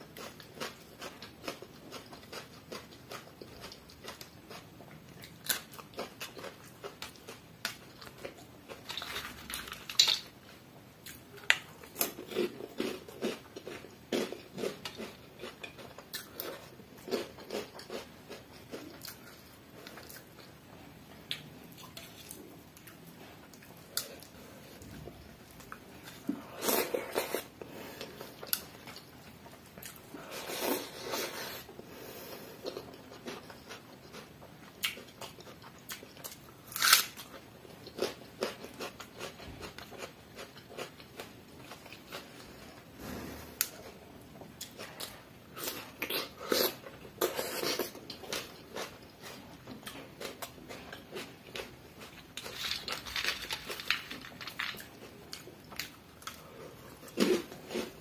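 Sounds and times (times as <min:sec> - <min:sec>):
man chewing and crunching: 0:00.0 - 0:31.6, 0:32.2 - 0:42.8, 0:43.6 - 0:58.0.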